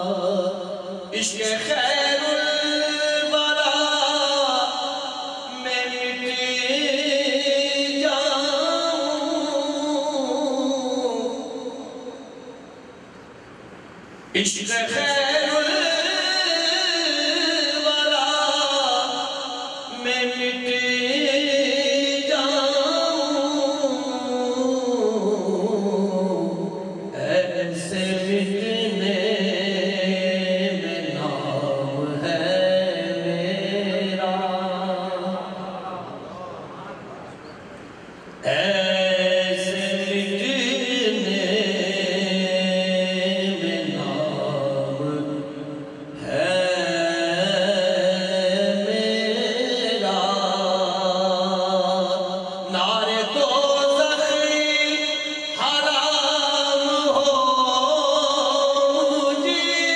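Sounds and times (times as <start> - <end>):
man singing devotional chant: 0.0 - 12.5, 14.3 - 36.9, 38.4 - 59.9.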